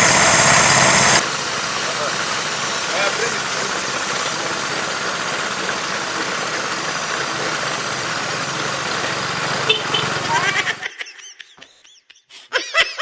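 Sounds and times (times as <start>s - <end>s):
motor running: 0.0s - 10.8s.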